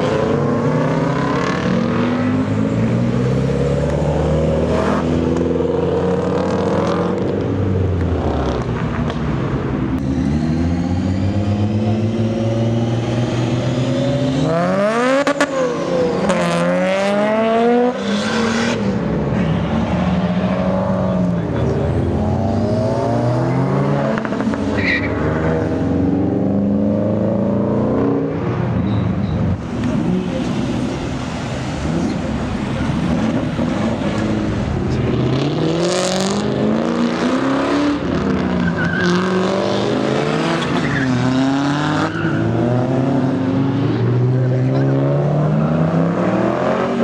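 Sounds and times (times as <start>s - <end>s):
cars accelerating hard: 0.0s - 47.0s.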